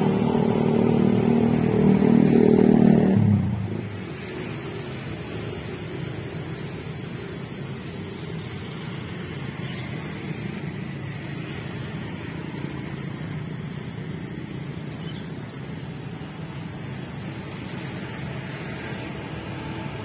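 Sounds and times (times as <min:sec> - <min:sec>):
distant vehicles rumbling: 0:00.0 - 0:20.0.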